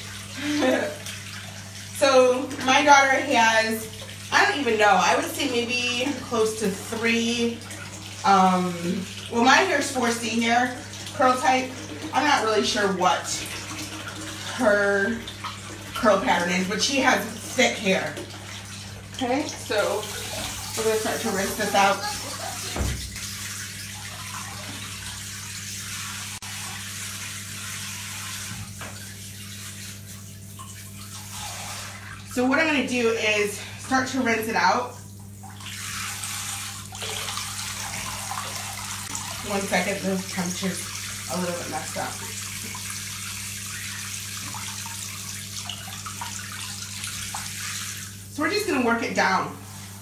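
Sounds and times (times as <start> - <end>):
shower water into bathtub: 0.0 - 50.0.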